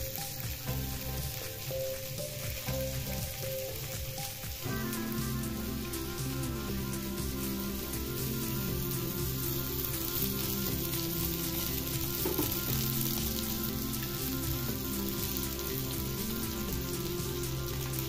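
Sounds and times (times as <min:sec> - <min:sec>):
fish frying in hot oil: 0:00.0 - 0:18.0.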